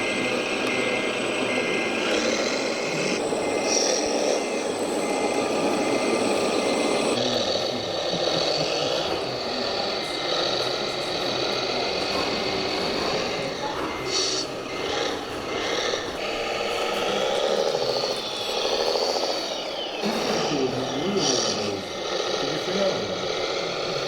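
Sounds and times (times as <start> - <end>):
model truck motors and gears: 0.0 - 24.0
reversing beeper: 0.0 - 24.0.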